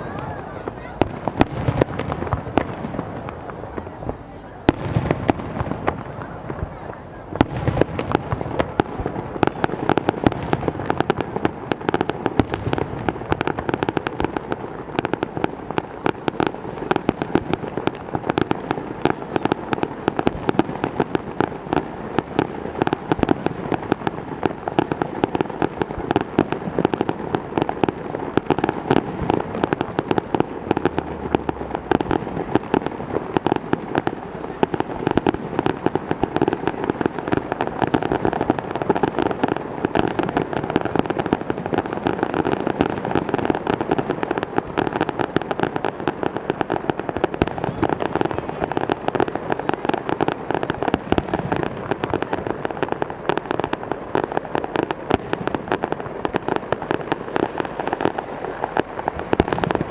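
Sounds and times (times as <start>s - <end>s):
fireworks bursts and crackle: 0.0s - 59.9s.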